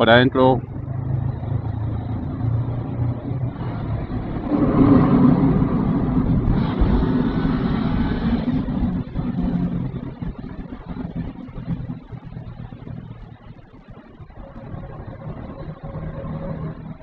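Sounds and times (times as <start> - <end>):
louder rumble: 0.0 - 17.0
motorcycle engine cruising: 0.0 - 17.0
wind and road noise: 0.0 - 17.0.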